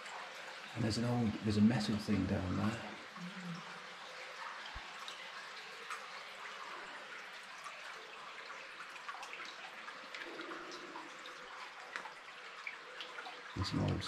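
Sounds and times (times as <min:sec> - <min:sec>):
trickle of flowing water: 0:00.0 - 0:14.0
water drips: 0:00.0 - 0:14.0.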